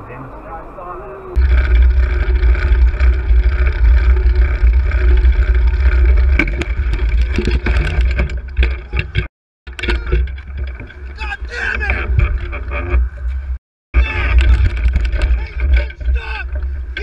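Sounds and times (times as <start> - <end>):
knocks and rattles: 1.4 - 17.0
wind rumble on microphone: 1.4 - 17.0.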